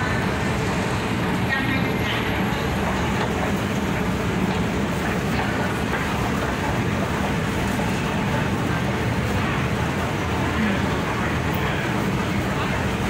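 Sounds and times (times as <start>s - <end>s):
busy station hum: 0.0s - 13.0s.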